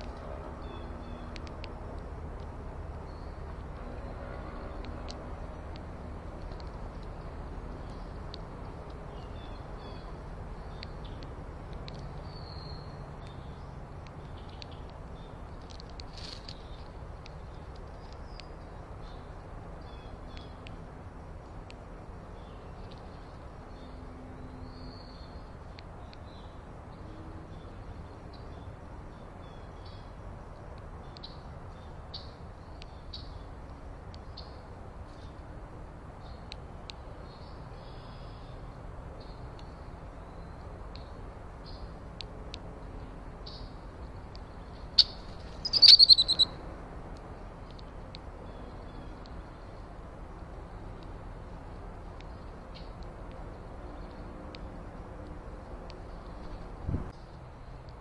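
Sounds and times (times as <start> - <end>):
small songbirds chirping: 0.0 - 58.0.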